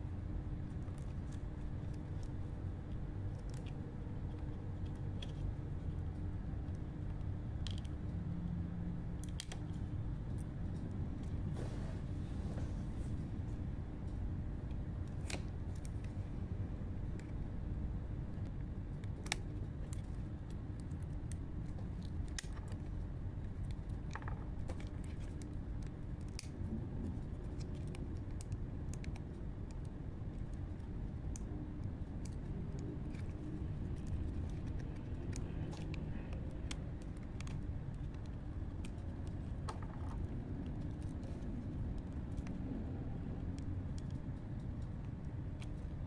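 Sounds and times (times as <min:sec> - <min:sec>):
small plastic clicks and scratches: 0:00.6 - 0:08.2, 0:09.0 - 0:11.4, 0:18.4 - 0:46.0.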